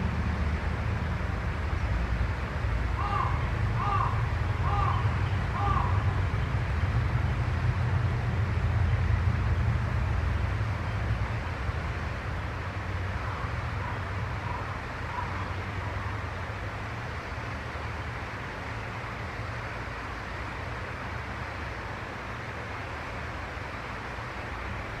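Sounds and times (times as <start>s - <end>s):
low rumble with hiss: 0.0s - 25.0s.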